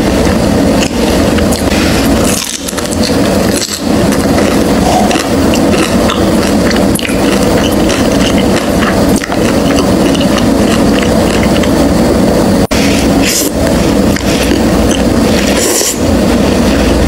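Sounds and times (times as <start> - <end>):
steady low rumble: 0.0 - 17.0
crunchy chewing: 0.7 - 11.8, 12.8 - 16.1.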